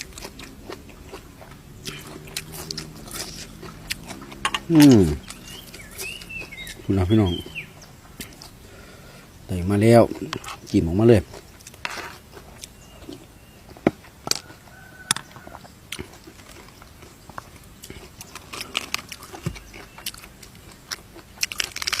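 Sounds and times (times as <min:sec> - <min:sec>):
person chewing: 0:00.0 - 0:09.2, 0:10.0 - 0:22.0.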